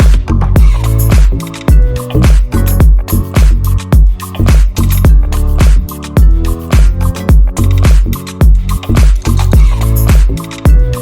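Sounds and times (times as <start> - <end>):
music with heavy bass thumps: 0.0 - 11.0.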